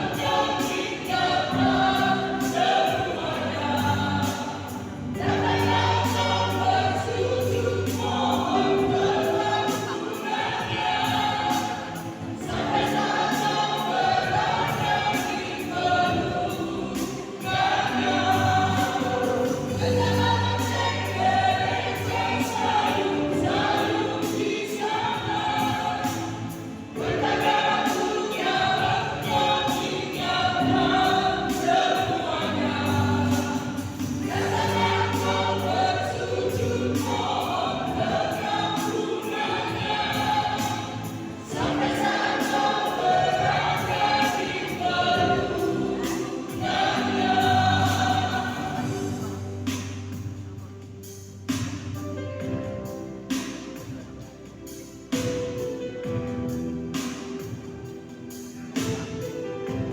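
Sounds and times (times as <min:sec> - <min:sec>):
choir singing in parts: 0:00.0 - 0:59.9.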